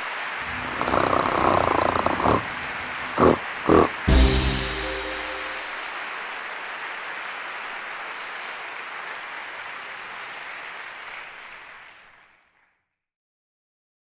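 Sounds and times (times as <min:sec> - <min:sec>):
audience applause: 0:00.0 - 0:12.8.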